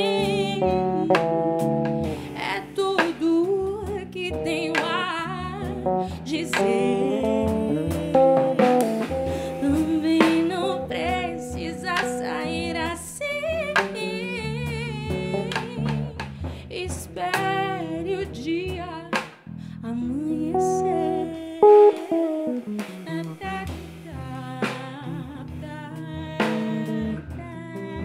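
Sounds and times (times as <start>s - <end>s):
plucked bass line: 0.0s - 16.4s, 19.9s - 28.0s
woman singing with vibrato: 0.0s - 19.2s, 19.8s - 28.0s.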